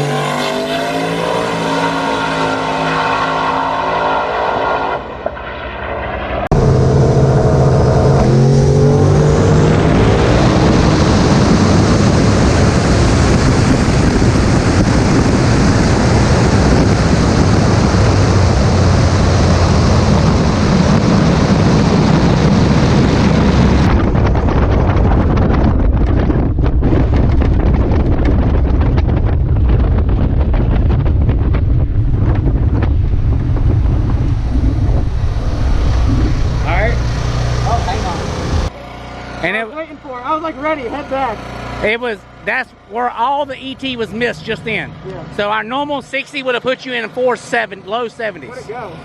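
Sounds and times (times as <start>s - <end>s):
drag car engine roaring: 0.0s - 49.0s.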